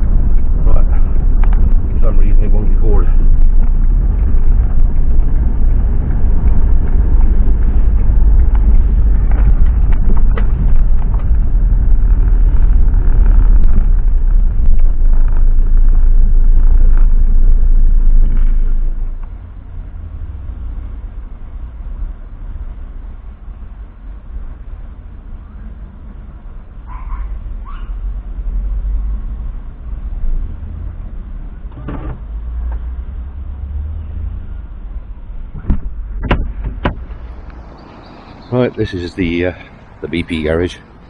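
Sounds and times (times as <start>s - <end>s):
moving vehicle rumble: 0.0s - 41.0s.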